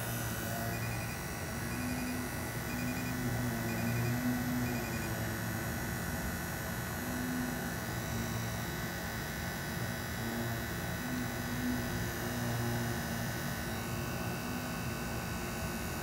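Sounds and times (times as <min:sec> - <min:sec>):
higher-pitched hum layer: 0:00.0 - 0:16.0.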